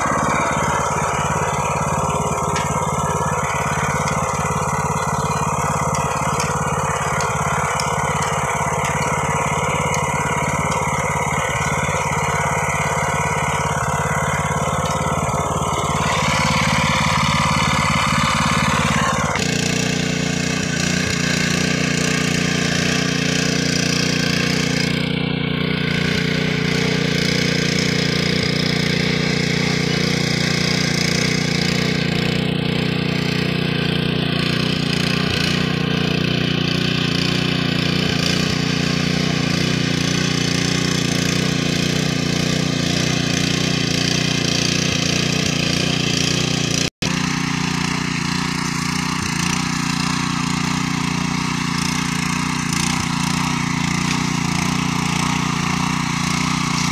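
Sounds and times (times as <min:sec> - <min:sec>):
rotary tiller engine running: 0:00.0 - 0:56.9.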